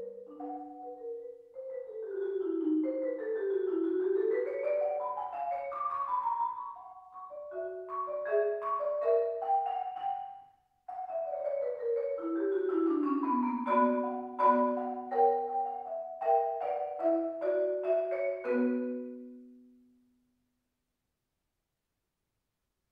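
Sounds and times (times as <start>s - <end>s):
marimba runs: 0.0s - 19.3s.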